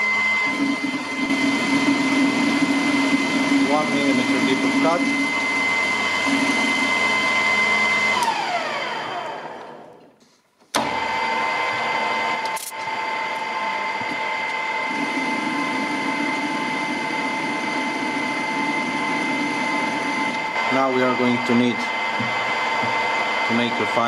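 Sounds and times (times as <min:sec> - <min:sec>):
metal lathe gear whine: 0:00.0 - 0:09.8, 0:11.0 - 0:24.0.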